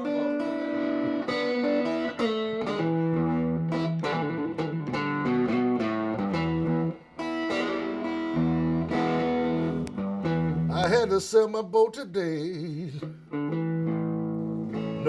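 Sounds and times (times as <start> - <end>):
blues guitar playing: 0.0 - 15.0.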